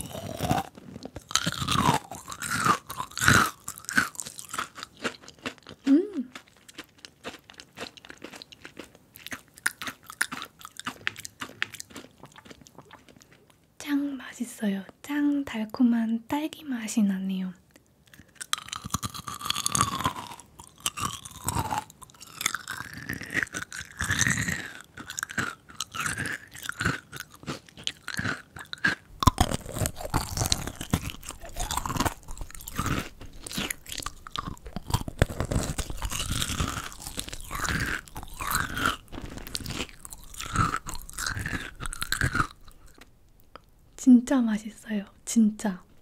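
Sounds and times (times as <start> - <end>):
crunching and chewing candy: 0.0 - 13.8, 17.7 - 43.8.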